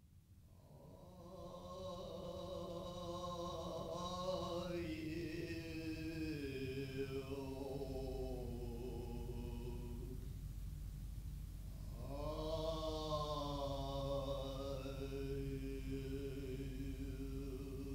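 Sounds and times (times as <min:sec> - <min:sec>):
chant-like droning music: 0:00.6 - 0:10.3, 0:11.8 - 0:17.9.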